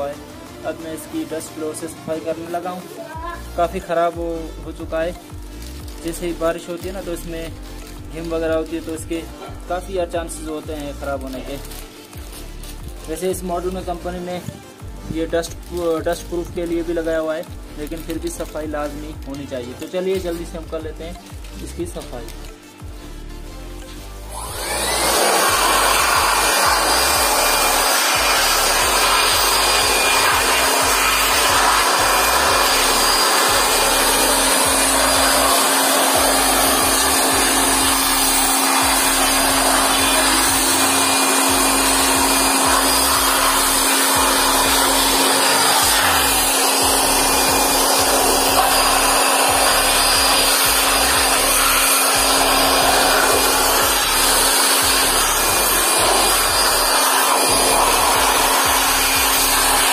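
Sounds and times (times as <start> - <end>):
electric air blower motor hum: 0.0 - 59.9.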